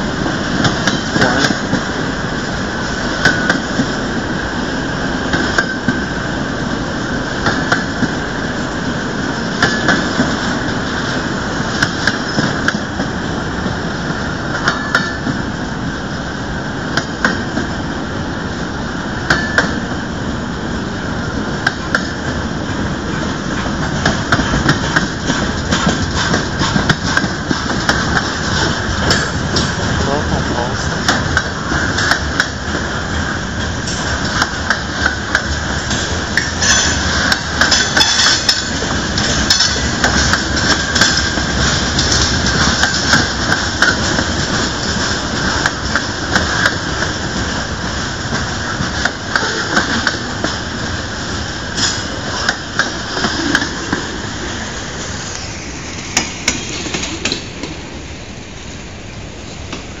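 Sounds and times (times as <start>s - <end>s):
train wheels rumbling: 0.0s - 60.0s.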